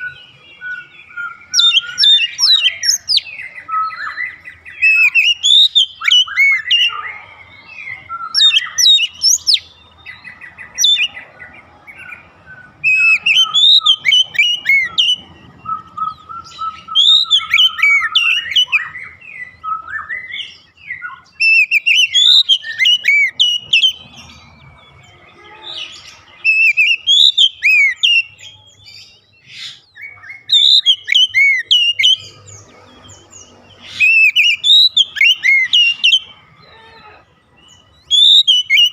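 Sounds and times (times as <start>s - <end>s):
bird singing whistled notes: 0.0s - 24.4s, 25.8s - 36.4s, 37.5s - 38.9s.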